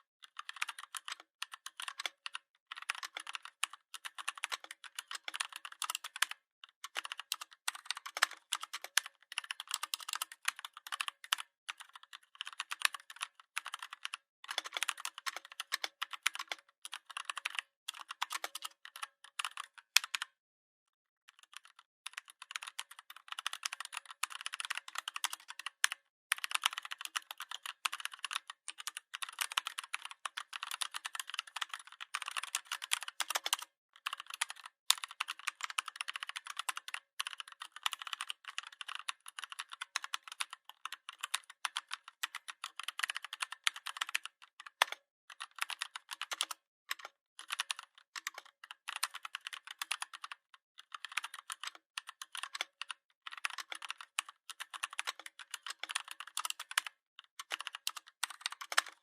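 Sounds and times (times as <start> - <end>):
computer keyboard typing: 0.2 - 20.3, 21.3 - 59.0.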